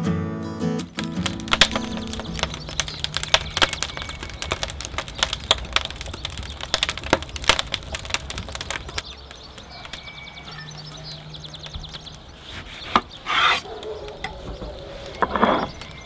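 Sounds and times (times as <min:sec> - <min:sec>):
wood fire crackling and popping: 0:00.8 - 0:16.0.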